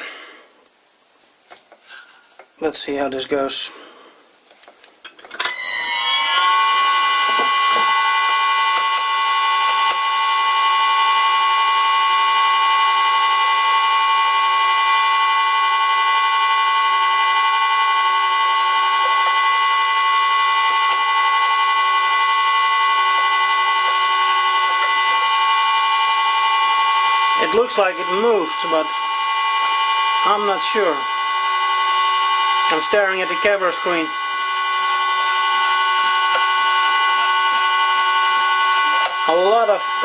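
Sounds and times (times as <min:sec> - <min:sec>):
metal lathe whining: 0:05.2 - 0:40.0.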